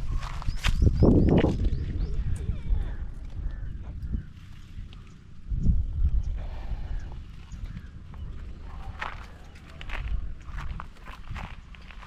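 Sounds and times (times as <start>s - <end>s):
motorcycle engine rumbling: 1.2s - 12.0s.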